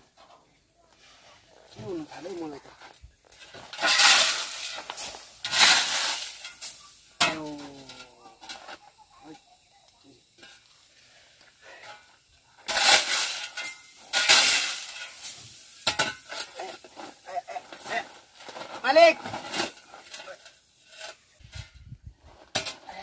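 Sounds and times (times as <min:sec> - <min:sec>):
shovel scraping gravel: 0:01.0 - 0:08.8, 0:11.7 - 0:23.0.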